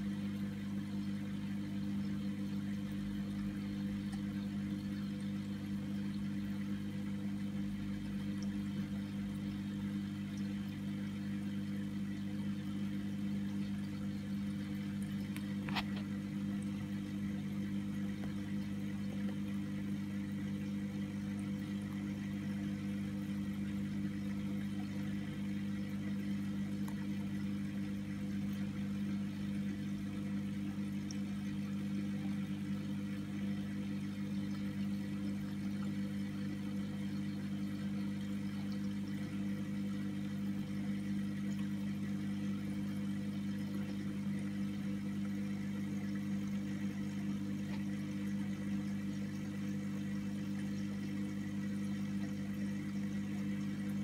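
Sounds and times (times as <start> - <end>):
aquarium pump humming: 0.0 - 54.0.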